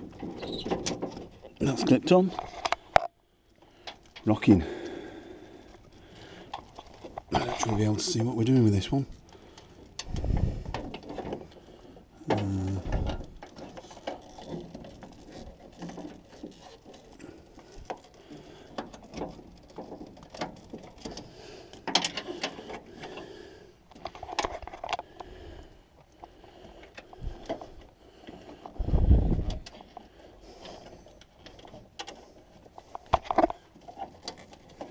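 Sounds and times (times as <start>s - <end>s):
small plastic clicks and rustles: 0.0s - 4.4s, 5.6s - 34.9s.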